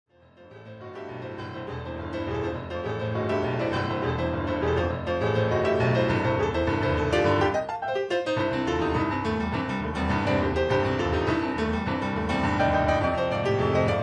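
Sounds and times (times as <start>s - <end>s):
rock and roll piano music: 0.1s - 14.0s.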